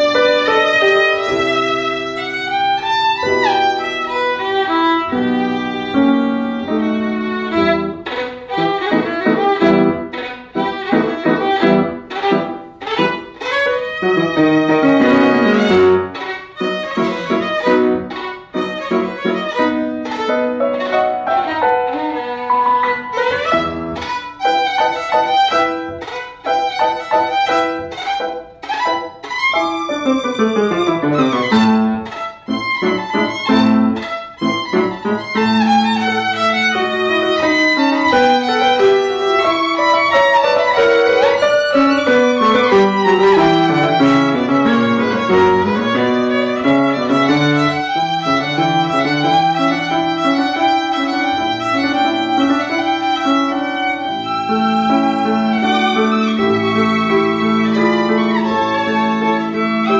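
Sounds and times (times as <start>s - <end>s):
solo violin playing fast: 0.0s - 59.9s.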